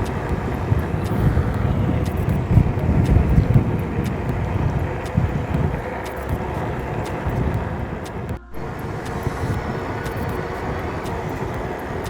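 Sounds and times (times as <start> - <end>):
tyres rumbling on pavement: 0.0 - 12.0
wind buffeting microphone: 0.0 - 12.0.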